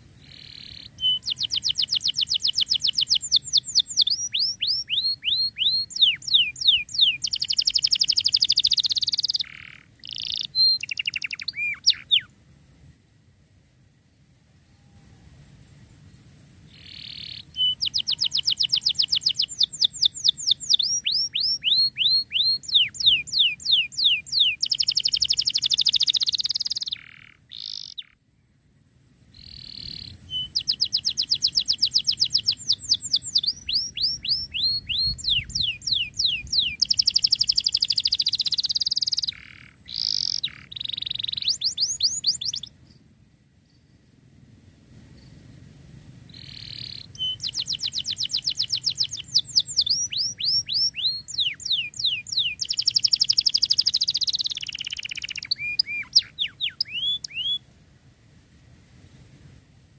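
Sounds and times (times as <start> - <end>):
canary singing trills: 0.2 - 12.3, 16.7 - 28.2, 29.4 - 42.7, 46.3 - 57.6.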